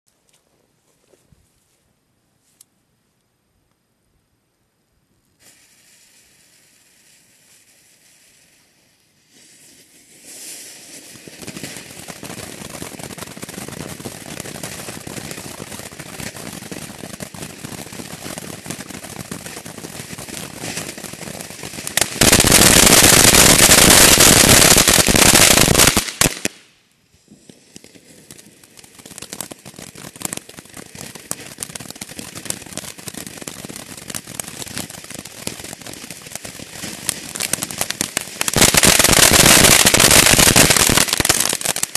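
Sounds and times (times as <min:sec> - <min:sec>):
firework fountain hissing and crackling: 0:05.4 - 0:41.9.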